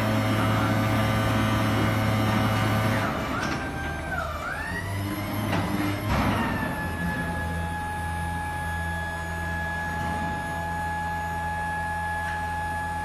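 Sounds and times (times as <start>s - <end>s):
hydraulic power unit humming: 0.0s - 13.0s
whining tone: 2.5s - 13.0s.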